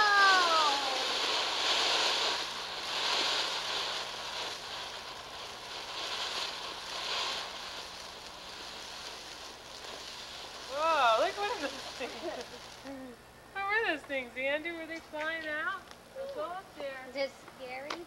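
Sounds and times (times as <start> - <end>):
fountain firework hissing: 0.0 - 16.9.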